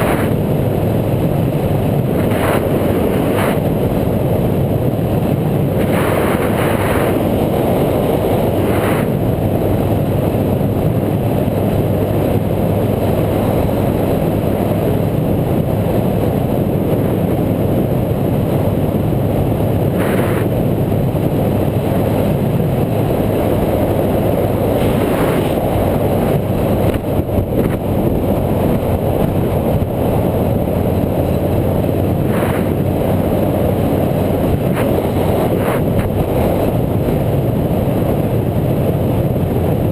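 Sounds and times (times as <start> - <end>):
bike riding noise: 0.0 - 39.9
wind rushing: 0.0 - 39.9.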